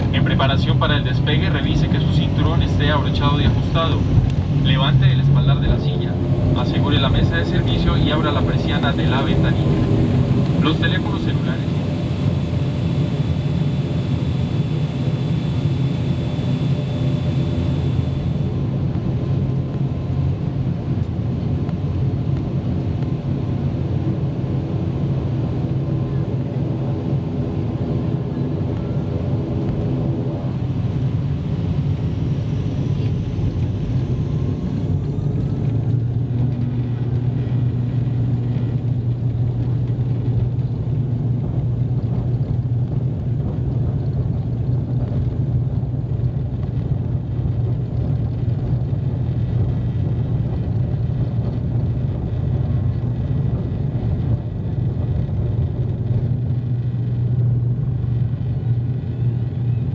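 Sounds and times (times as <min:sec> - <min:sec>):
propeller drone: 0:00.0 - 0:59.9
rising whine: 0:00.0 - 0:59.9
wheels rumbling on runway: 0:00.0 - 0:59.9.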